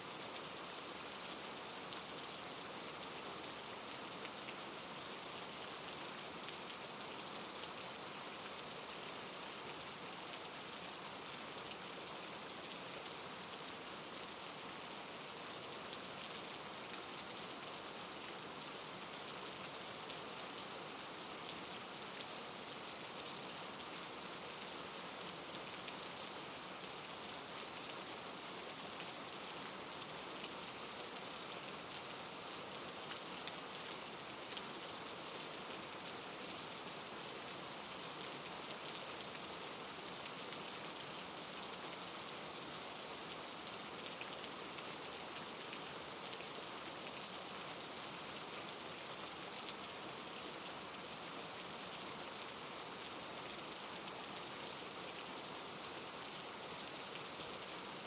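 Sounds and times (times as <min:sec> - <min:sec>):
soft rain hiss: 0:00.0 - 0:58.0.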